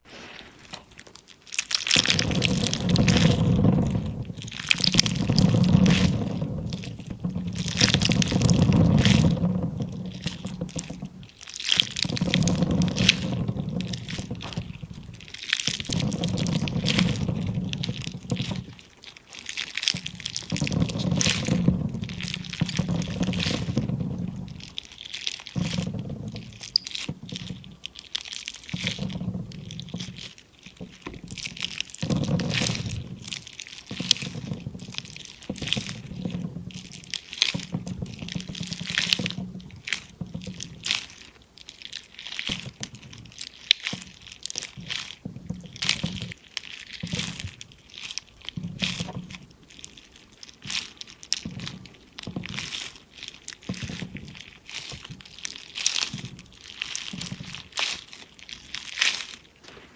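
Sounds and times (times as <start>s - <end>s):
squishy toy crackling and popping: 0.0s - 59.9s.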